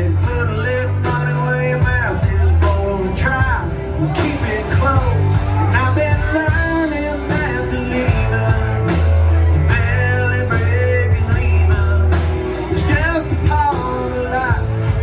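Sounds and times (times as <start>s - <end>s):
man singing: 0.0s - 15.0s
rock band playing: 0.0s - 15.0s.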